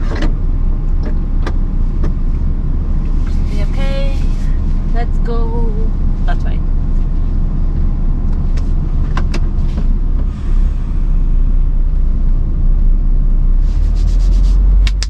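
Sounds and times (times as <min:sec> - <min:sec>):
lorry diesel engine rumble: 0:00.0 - 0:15.0.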